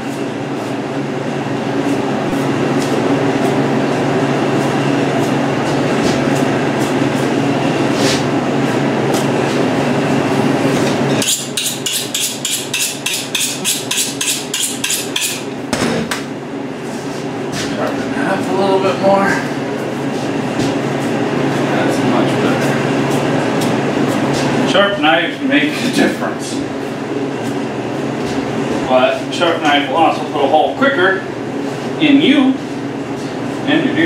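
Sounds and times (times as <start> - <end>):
refrigeration unit humming: 0.0 - 34.0.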